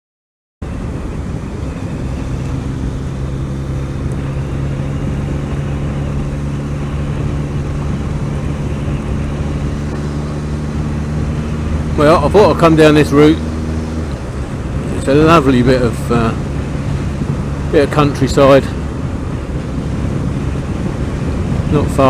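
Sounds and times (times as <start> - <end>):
motorcycle engine cruising: 0.6 - 22.0
road and wind noise: 0.6 - 22.0.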